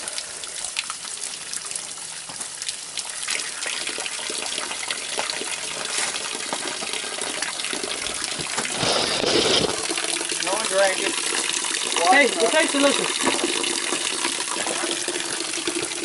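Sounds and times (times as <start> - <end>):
running water gushing and splashing: 0.0 - 16.0.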